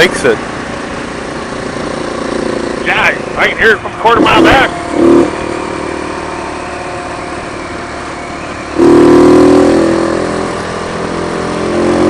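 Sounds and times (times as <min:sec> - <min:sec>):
motorcycle engine and exhaust: 0:00.0 - 0:12.0.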